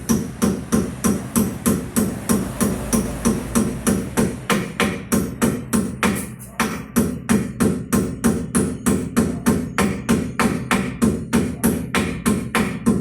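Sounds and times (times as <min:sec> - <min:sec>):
hammer blows on metal: 0:00.0 - 0:13.0.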